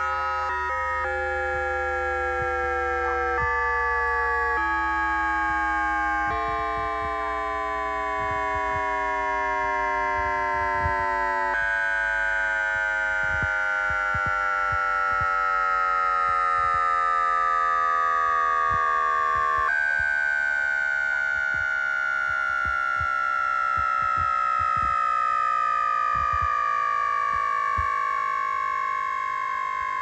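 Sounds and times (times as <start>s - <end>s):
electric train motor whine: 0.0s - 30.0s.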